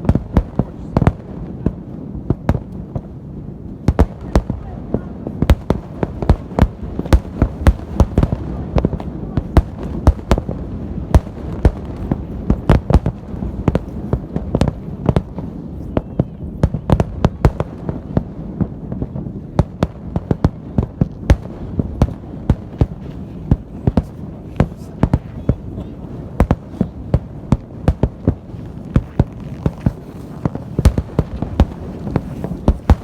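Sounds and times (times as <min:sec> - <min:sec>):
fireworks bursting with sharp bangs: 0:00.0 - 0:33.0.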